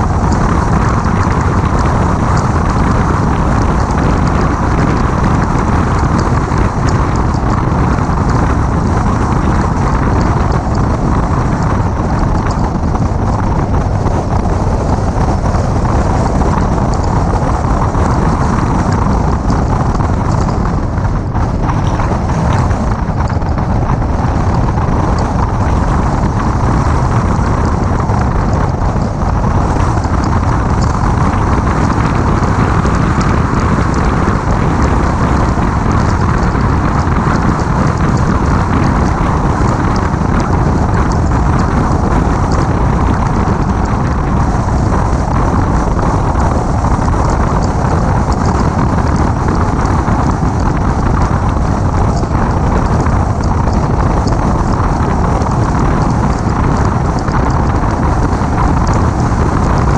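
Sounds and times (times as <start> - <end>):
car road and engine noise: 0.0 - 59.9
wind rumble on microphone: 0.0 - 59.9.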